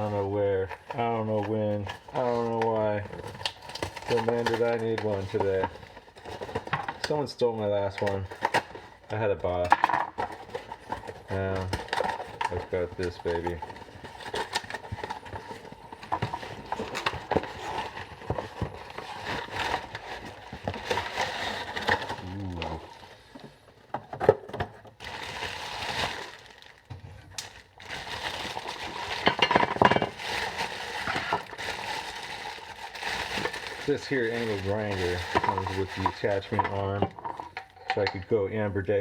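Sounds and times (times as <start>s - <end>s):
packaging rustling: 0.0s - 37.8s.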